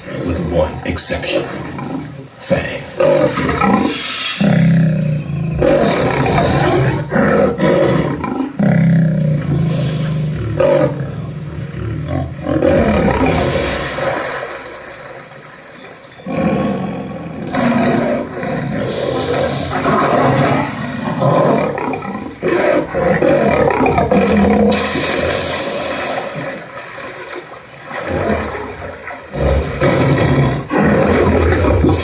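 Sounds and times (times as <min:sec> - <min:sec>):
lion roaring and snarling: 0:02.9 - 0:14.3, 0:16.2 - 0:26.6, 0:28.0 - 0:32.0.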